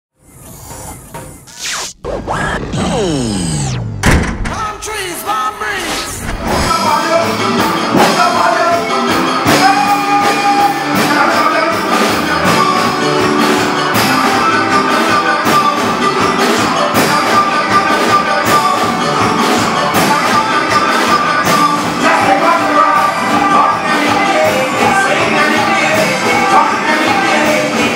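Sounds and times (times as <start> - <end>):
soca band playing: 4.5 - 27.9.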